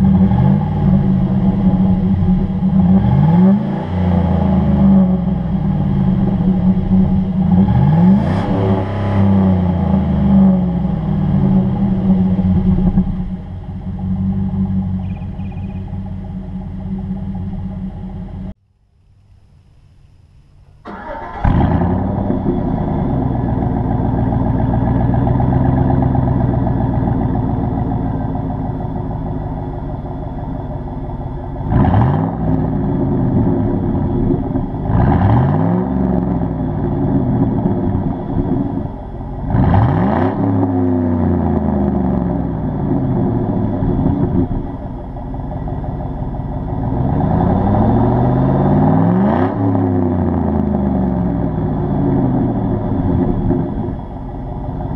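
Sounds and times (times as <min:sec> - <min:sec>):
truck engine starting and revving: 0:00.0 - 0:18.6, 0:20.8 - 0:54.9.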